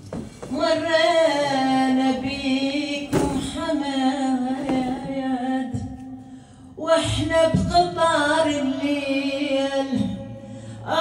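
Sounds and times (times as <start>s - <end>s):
woman singing without words: 0.5s - 11.0s.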